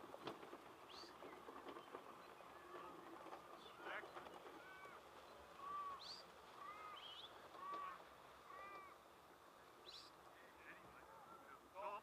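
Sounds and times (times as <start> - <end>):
faint bird calls: 0.8 - 12.0.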